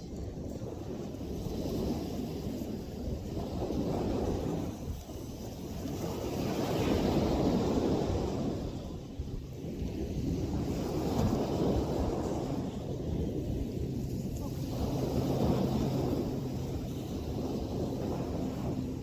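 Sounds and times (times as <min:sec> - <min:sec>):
ocean surf washing in: 0:00.0 - 0:19.0
wind buffeting microphone: 0:00.0 - 0:19.0.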